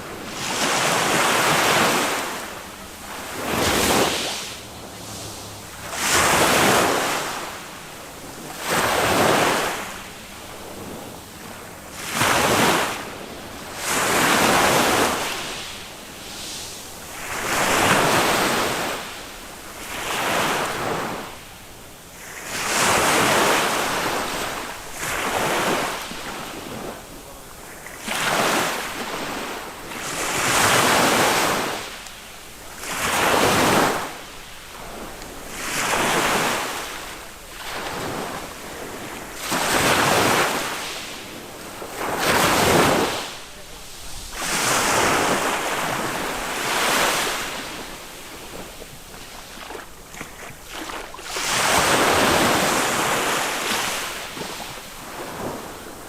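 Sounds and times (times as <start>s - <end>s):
small waves washing up a beach: 0.0s - 56.0s.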